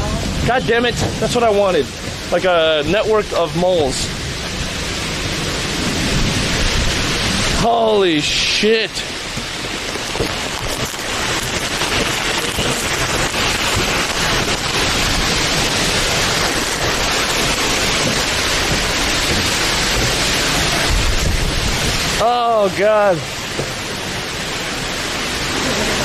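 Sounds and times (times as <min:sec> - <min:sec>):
heavy rain hissing: 0:00.0 - 0:26.0.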